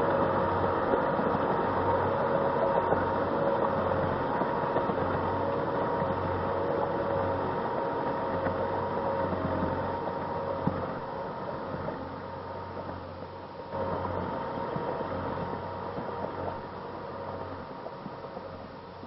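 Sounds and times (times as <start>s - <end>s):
drivetrain whine: 0.0s - 19.0s
vehicle engine running: 0.0s - 19.0s.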